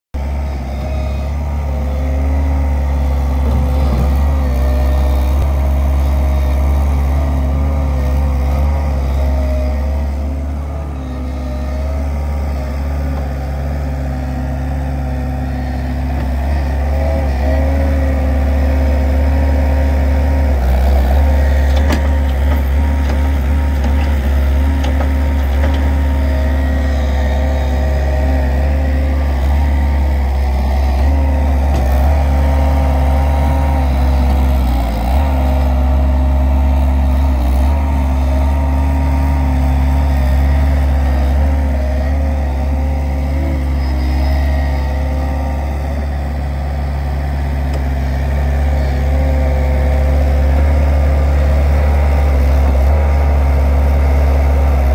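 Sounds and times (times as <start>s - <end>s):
loader diesel engine working: 0.2s - 54.9s
tractor engine idling: 0.2s - 54.9s.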